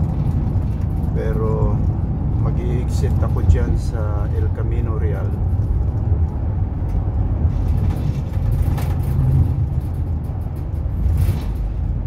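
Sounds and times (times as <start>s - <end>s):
road and engine rumble inside vehicle: 0.0s - 12.0s.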